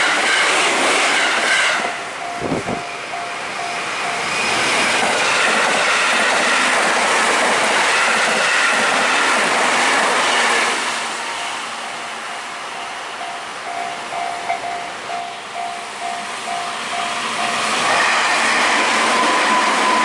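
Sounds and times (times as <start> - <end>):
train wheel and rail noise: 0.0 - 20.0.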